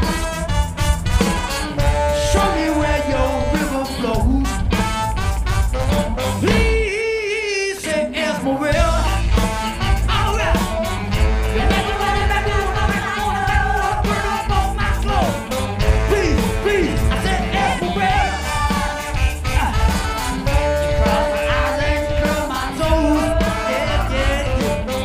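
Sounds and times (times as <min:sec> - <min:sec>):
live band playing: 0:00.0 - 0:25.0
lead and backing vocals: 0:01.7 - 0:04.9, 0:06.4 - 0:25.0.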